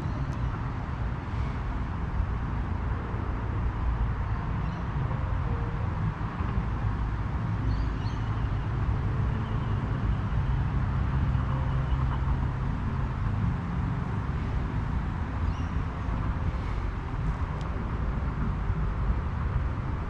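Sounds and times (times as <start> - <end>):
distant road traffic rumble: 0.0 - 20.0.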